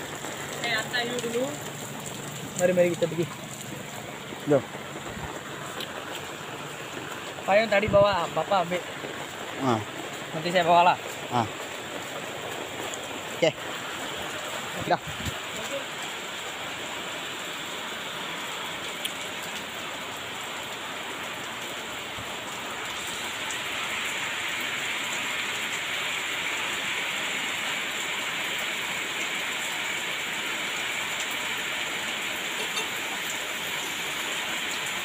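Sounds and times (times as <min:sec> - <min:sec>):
heavy rain pouring: 0:00.0 - 0:35.0
water streaming off roof: 0:00.0 - 0:35.0.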